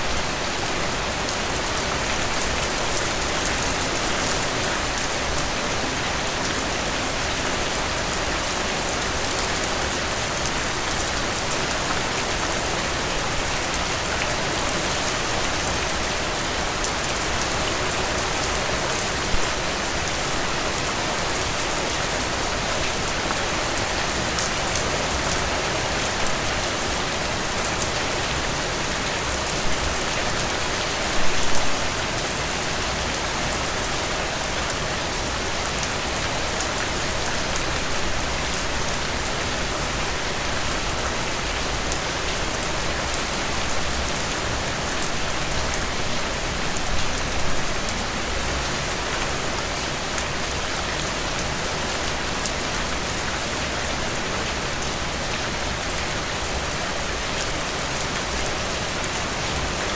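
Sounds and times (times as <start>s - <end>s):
strong rain falling: 0.0s - 59.9s.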